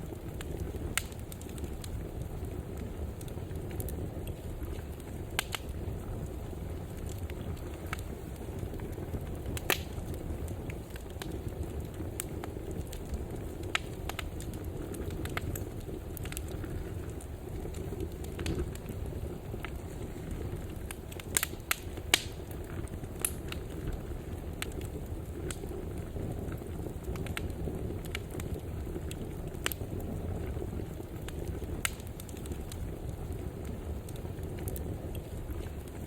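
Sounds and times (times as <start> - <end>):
fire crackles and pops: 0.0 - 36.0
low rumble of flames: 0.0 - 36.0.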